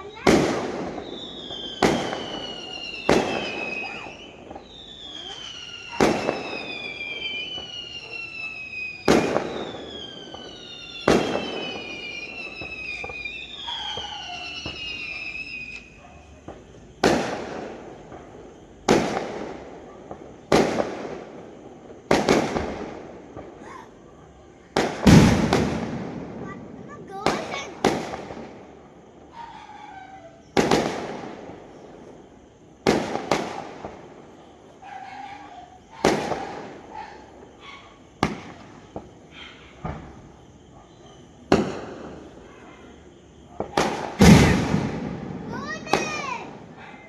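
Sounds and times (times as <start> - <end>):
fireworks bangs: 0.0 - 24.0, 24.7 - 47.0
fireworks falling whistles: 0.0 - 47.0.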